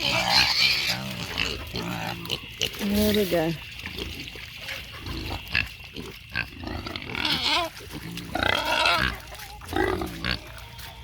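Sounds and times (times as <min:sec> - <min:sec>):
pigs grunting and squealing: 0:00.0 - 0:11.0.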